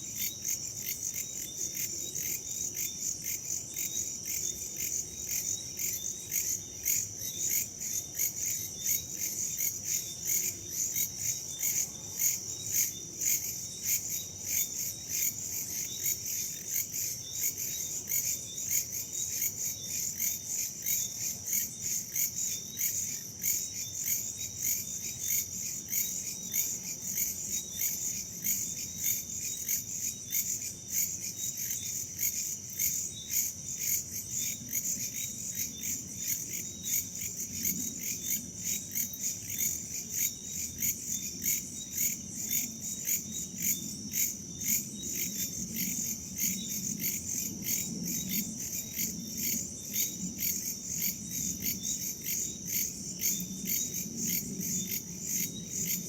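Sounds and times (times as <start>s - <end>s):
crickets and insects chirring: 0.0s - 56.0s.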